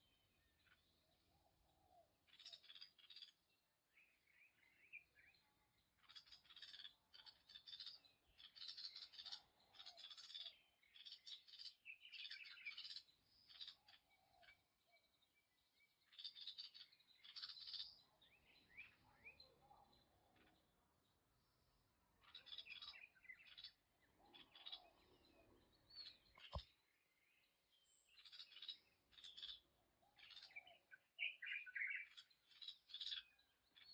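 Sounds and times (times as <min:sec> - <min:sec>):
faint bird twittering: 0:00.0 - 0:33.9
small birds chirping: 0:00.0 - 0:33.9.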